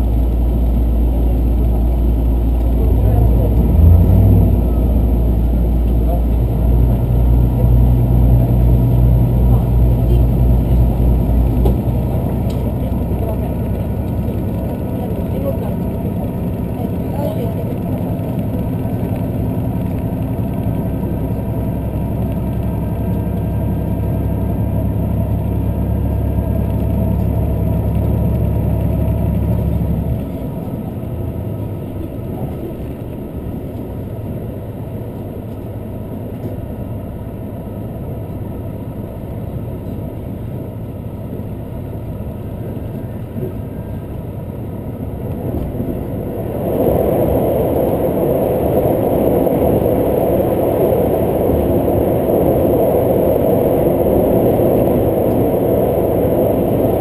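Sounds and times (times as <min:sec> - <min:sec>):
train engine drone: 0:00.0 - 0:57.0
train wheels rumbling on rails: 0:00.0 - 0:57.0.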